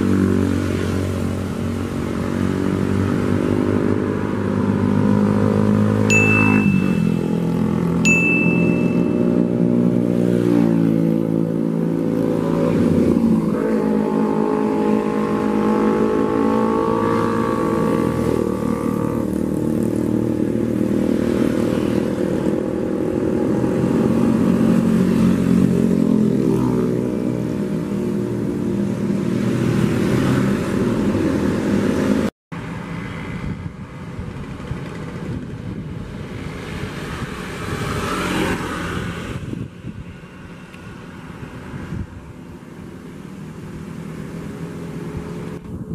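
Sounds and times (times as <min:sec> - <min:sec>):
motorcycles and cars passing: 0:00.0 - 0:45.9
road traffic: 0:00.0 - 0:45.9.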